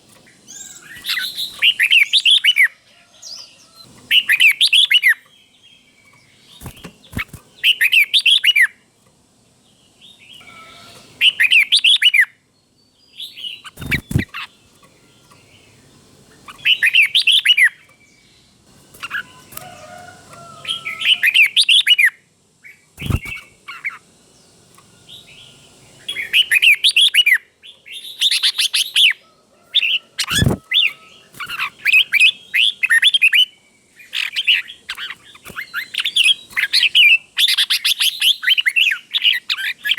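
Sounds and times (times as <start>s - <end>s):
bird singing warbled phrases: 0.0s - 2.8s, 3.4s - 8.9s, 9.5s - 39.9s.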